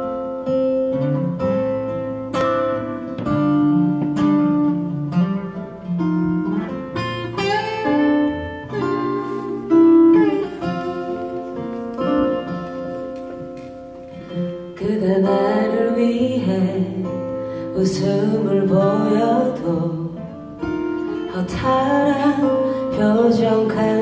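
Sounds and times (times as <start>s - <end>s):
acoustic guitars strumming chords: 0.0s - 24.0s.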